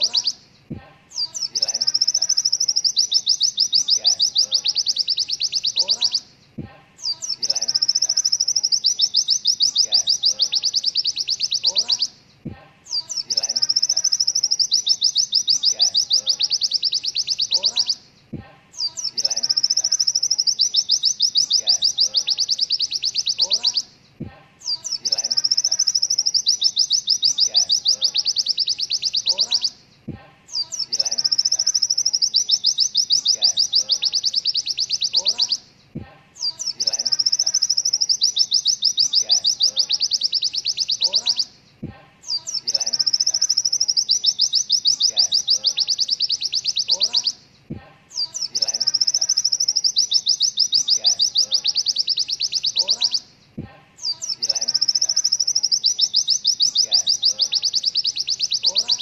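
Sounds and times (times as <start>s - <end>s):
bird singing a rattling trill: 0.0s - 59.0s.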